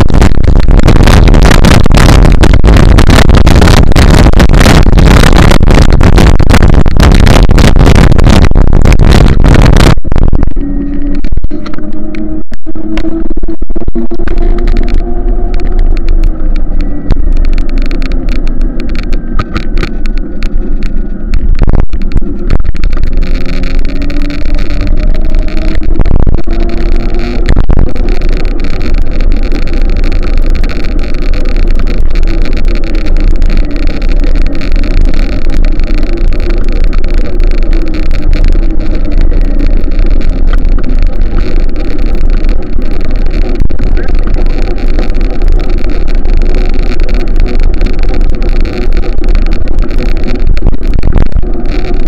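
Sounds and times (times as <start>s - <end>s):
engine running: 0.0s - 52.0s
heavy low rumble: 0.0s - 52.0s.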